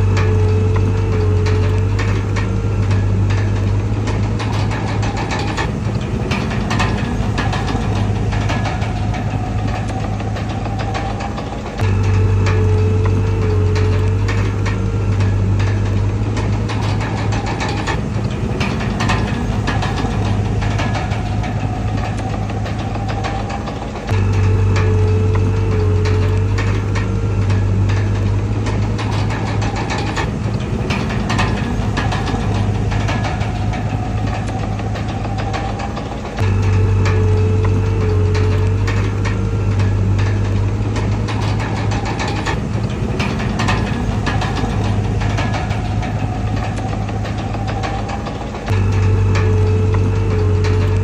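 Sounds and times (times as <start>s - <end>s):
bulldozer engine running: 0.0s - 51.0s
metallic clanks from tracks: 0.0s - 51.0s.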